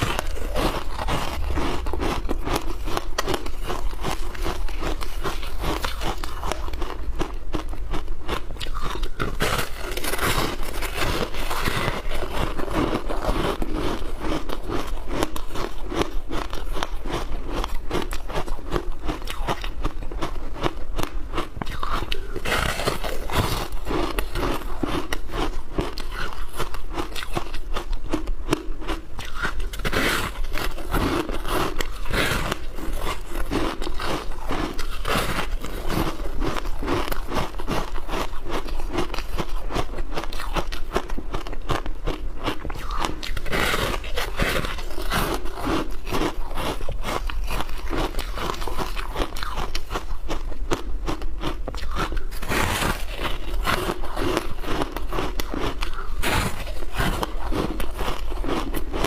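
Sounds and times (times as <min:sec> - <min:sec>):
crunching and chewing shaved ice: 0:00.0 - 0:59.0.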